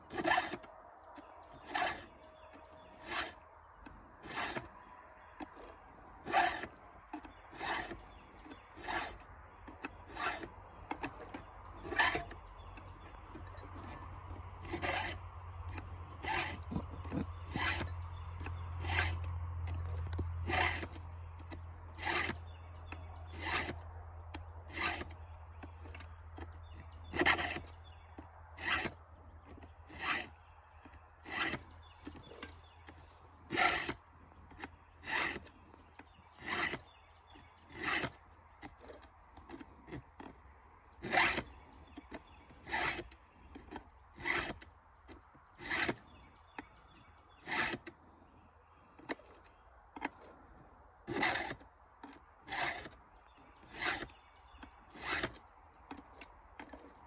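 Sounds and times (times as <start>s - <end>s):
file rasping on saw chain: 0.0s - 4.7s, 5.4s - 23.9s, 24.7s - 25.2s, 25.8s - 27.8s, 28.6s - 30.4s, 31.2s - 40.4s, 41.0s - 46.0s, 46.6s - 47.9s, 51.1s - 57.0s.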